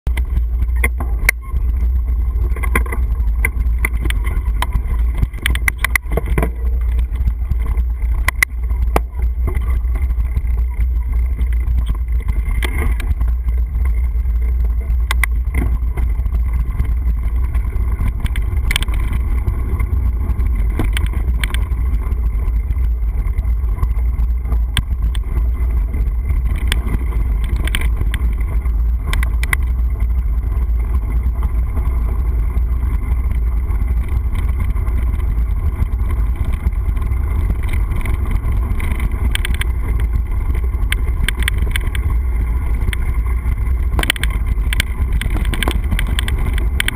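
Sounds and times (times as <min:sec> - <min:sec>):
knocks and rattles on gravel trail: 0:00.1 - 0:46.9
wind buffeting microphone: 0:00.1 - 0:46.9.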